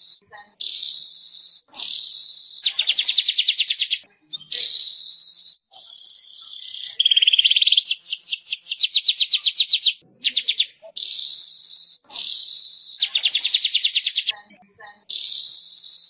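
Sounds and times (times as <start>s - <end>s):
weaver bird singing: 0.0s - 14.4s, 15.1s - 16.0s.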